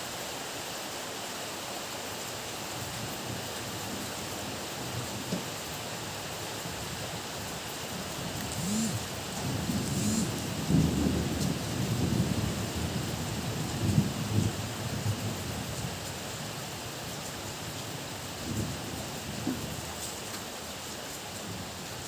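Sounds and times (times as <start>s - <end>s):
heavy rain falling: 1.5s - 22.0s.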